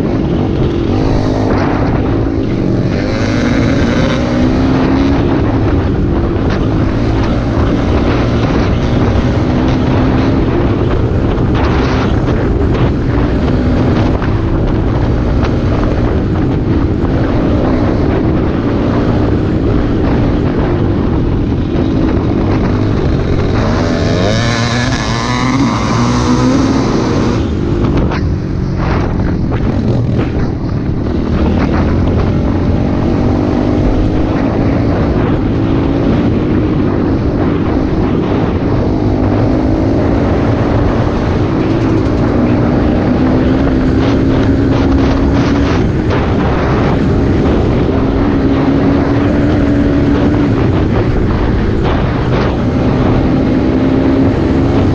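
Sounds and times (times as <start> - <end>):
off-road motorbike engine revving: 0.0 - 54.9.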